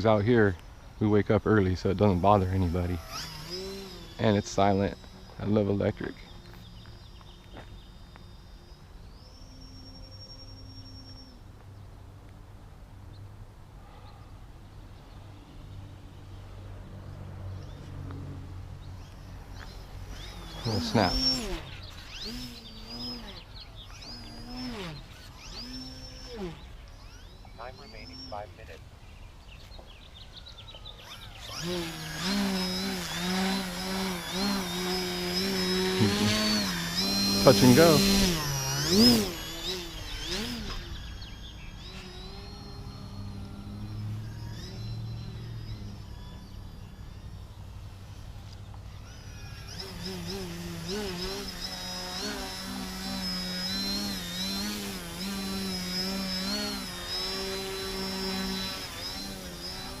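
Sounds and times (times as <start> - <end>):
model plane motor whining: 0.0 - 11.8, 17.6 - 28.8, 29.4 - 60.0.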